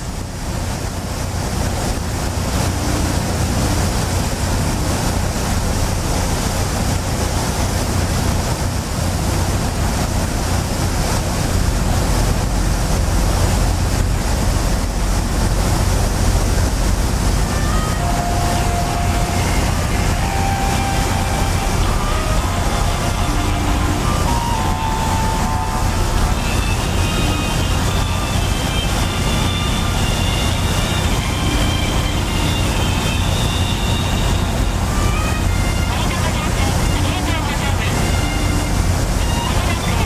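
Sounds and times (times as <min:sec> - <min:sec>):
ferry engines rumbling: 0:00.0 - 0:40.0
water washing: 0:00.0 - 0:40.0.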